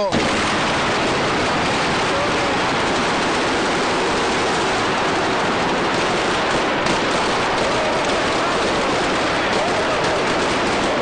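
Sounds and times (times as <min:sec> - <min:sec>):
fireworks hissing: 0:00.0 - 0:11.0.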